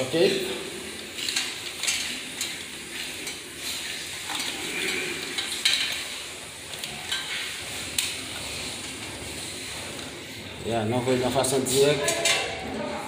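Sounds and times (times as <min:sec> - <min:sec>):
metal parts scraping and rattling: 0:00.8 - 0:12.8.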